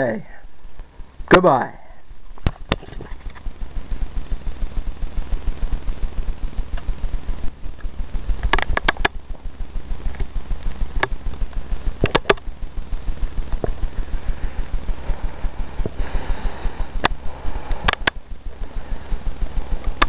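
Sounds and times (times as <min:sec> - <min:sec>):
light hiss: 0:00.0 - 0:20.0
low fast throb: 0:03.3 - 0:20.0.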